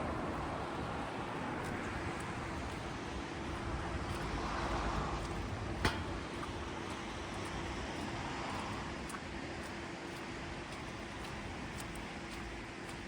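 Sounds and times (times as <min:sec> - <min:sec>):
raindrops ticking: 0:00.2 - 0:13.0.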